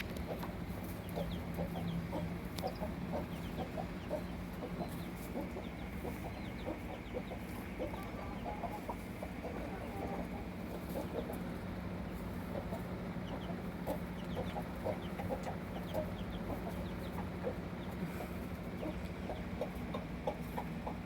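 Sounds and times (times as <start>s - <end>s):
chicks peeping: 0.0s - 21.0s
hens clucking: 0.0s - 21.0s.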